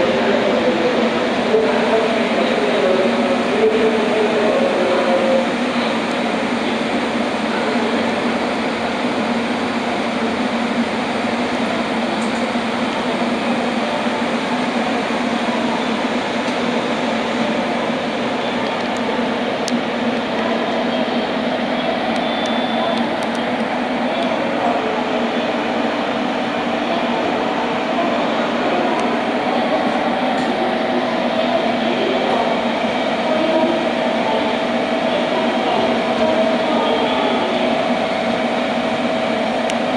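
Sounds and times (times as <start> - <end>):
electric train rushing: 0.0 - 39.9.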